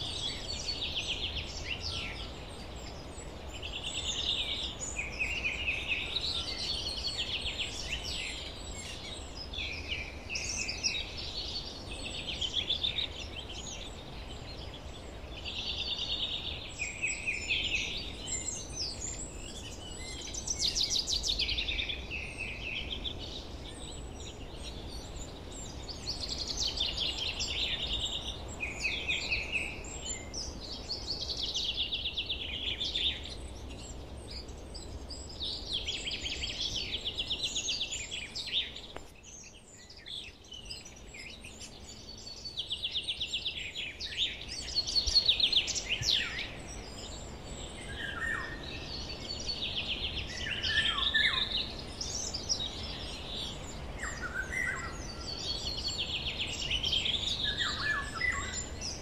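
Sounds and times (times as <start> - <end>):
songbirds singing trills: 0.0 - 59.0.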